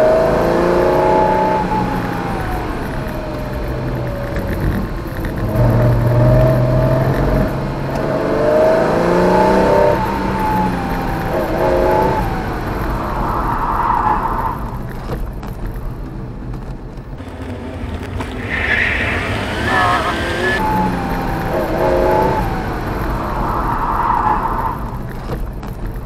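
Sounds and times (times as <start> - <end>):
car engine revving hard: 0.0 - 14.0, 17.2 - 25.0.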